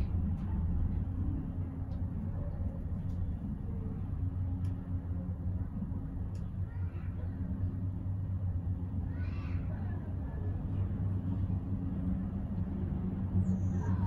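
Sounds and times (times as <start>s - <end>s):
cable car hum and rumble: 0.0s - 14.0s.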